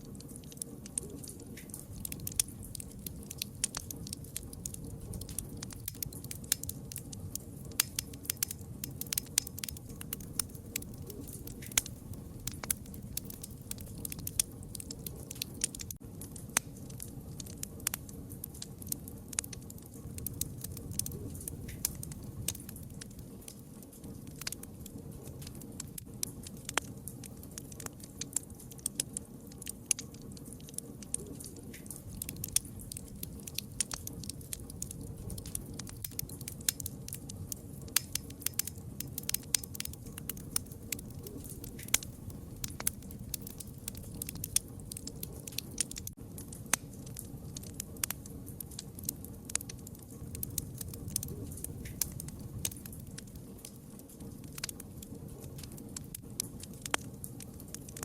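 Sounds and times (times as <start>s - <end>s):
campfire crackling: 0.0s - 58.0s
low rumble of burning wood: 0.0s - 58.0s.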